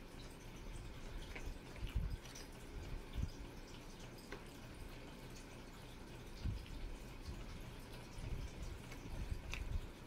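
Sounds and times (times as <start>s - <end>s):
wet chewing: 0.1s - 10.0s.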